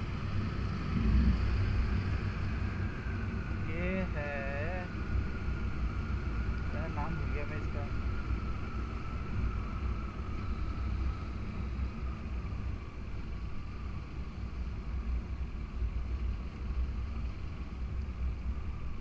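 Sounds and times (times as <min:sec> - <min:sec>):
motorcycle engine and wind rumble: 0:00.0 - 0:19.0.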